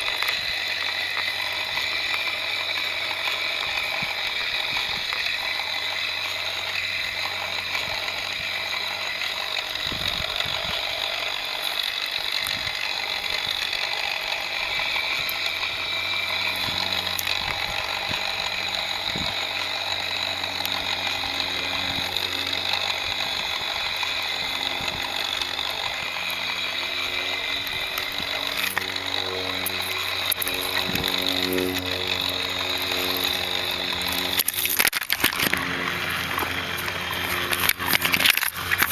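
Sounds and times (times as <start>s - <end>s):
ratcheting gear chatter: 0.0s - 38.9s
toy motor and gears whirring: 0.0s - 38.9s.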